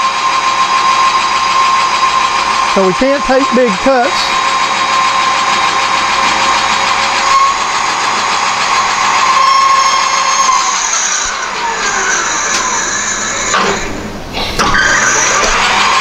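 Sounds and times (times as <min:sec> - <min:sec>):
metal lathe boring steel: 0:00.0 - 0:16.0.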